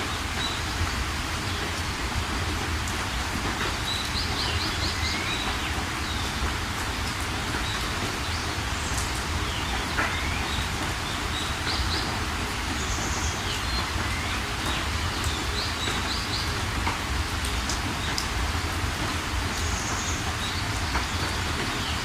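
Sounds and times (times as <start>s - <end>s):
steady rain falling: 0.0s - 22.0s
songbirds calling: 3.1s - 22.0s.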